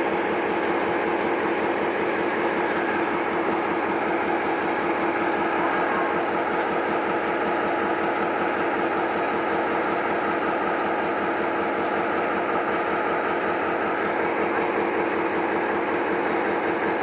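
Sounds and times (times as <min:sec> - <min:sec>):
diesel locomotive engine droning: 0:00.0 - 0:17.0.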